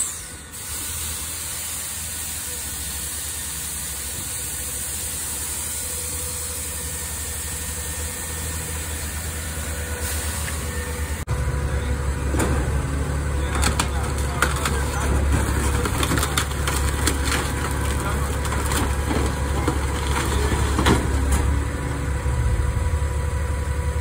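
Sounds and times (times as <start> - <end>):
close truck engine: 0.0 - 24.0
garbage truck engine humming: 0.0 - 24.0.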